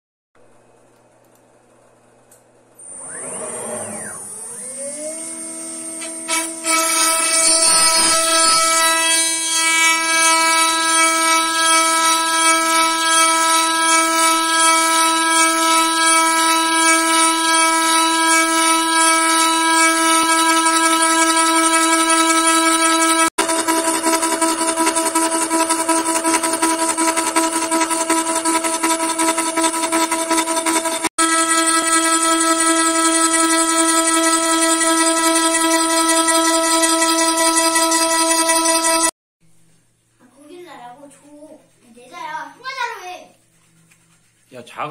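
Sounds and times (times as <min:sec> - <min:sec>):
router spindle whine: 0:02.8 - 0:39.1.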